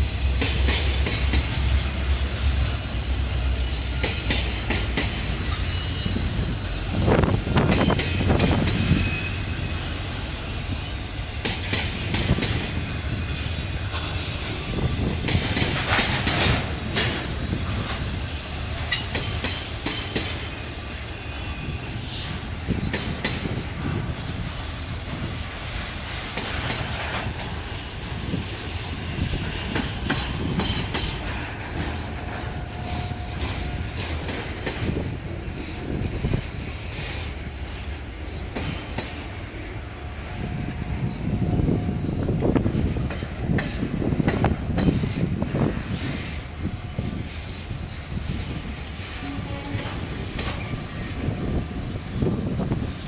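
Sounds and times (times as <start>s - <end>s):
train cars rumbling past: 0.0s - 53.0s
wheels clicking over rail joints: 0.3s - 2.0s, 3.9s - 9.1s, 9.8s - 21.3s, 22.2s - 41.6s, 42.3s - 46.4s, 49.0s - 52.8s.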